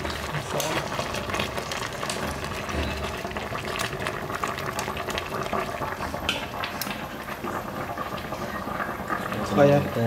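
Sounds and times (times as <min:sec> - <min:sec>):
soup boiling and bubbling: 0:00.0 - 0:10.0.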